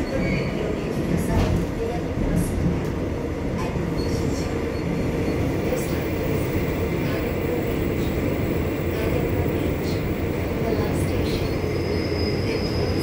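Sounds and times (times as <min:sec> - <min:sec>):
subway wheels rumbling: 0:00.0 - 0:13.0.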